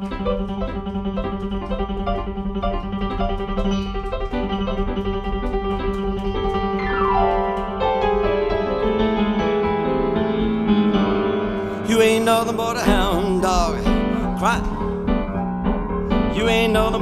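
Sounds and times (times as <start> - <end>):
rock and roll piano solo: 0.0 - 17.0.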